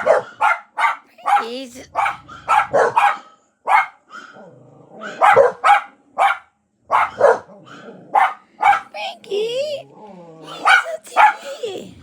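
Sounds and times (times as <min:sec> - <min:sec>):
dogs barking on tv: 0:00.0 - 0:09.0, 0:10.3 - 0:12.0
puppy barking: 0:00.0 - 0:09.0, 0:10.4 - 0:11.8.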